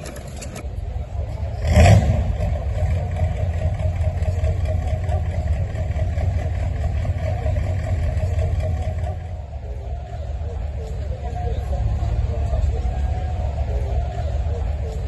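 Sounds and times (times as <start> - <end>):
engine running with pulsing rumble: 0.0 - 15.0.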